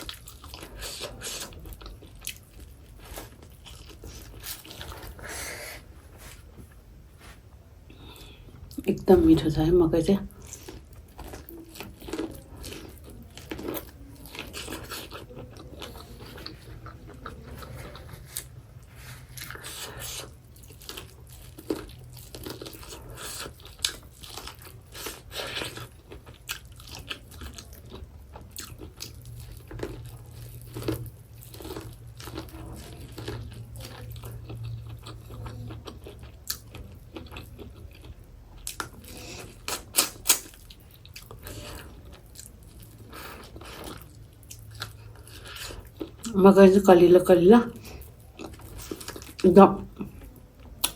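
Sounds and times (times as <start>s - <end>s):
chewing corn: 0.0s - 5.7s, 10.3s - 46.3s, 47.7s - 49.4s.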